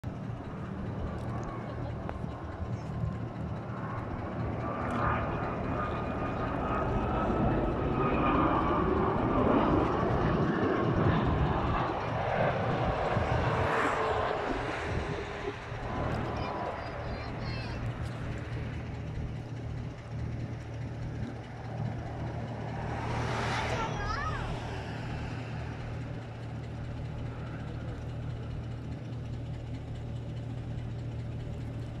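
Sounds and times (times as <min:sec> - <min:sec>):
jet airliner passing low: 0:00.0 - 0:32.0.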